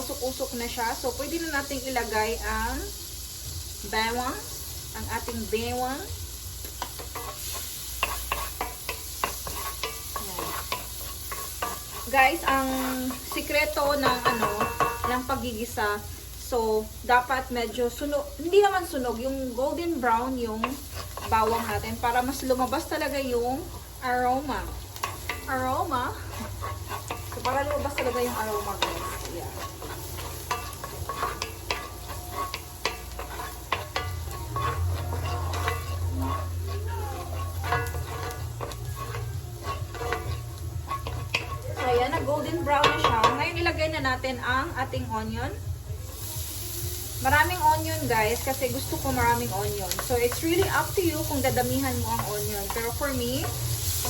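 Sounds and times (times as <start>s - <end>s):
garlic frying in butter: 0.0s - 54.0s
utensil scraping a pan: 4.6s - 16.1s, 18.6s - 43.7s, 47.3s - 54.0s.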